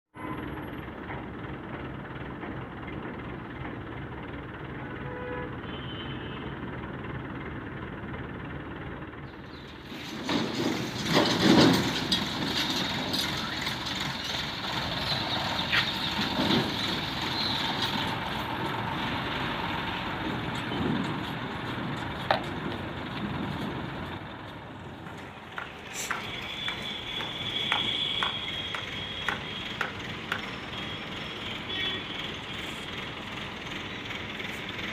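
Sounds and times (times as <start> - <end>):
engine surges and knocks: 0.2 - 34.9
heavy diesel machinery running: 0.2 - 34.9.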